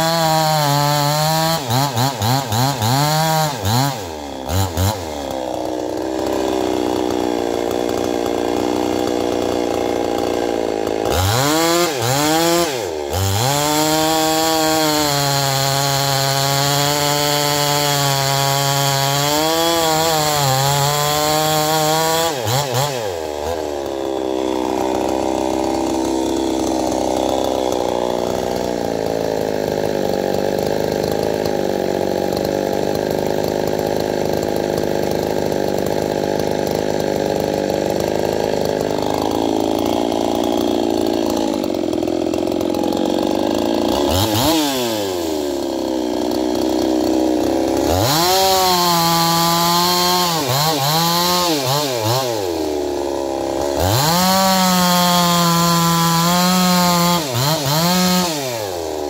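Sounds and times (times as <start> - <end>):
chainsaw cutting log: 0.0 - 59.0
chainsaw revving: 0.0 - 59.0.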